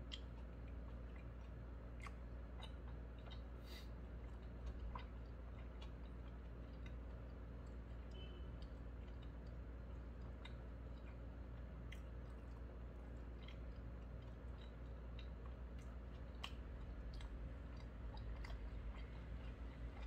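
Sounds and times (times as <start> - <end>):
small wet clicks: 0.0 - 3.5, 4.1 - 20.0
low steady hum: 0.0 - 20.0
man chewing food: 0.0 - 20.0.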